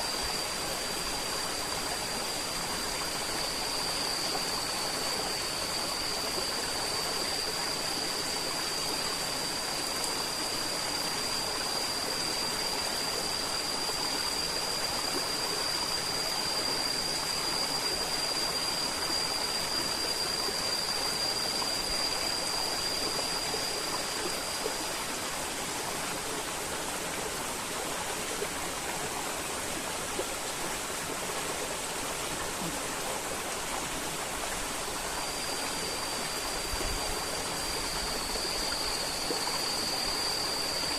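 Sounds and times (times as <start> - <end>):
high-pitched whine: 0.0 - 40.9.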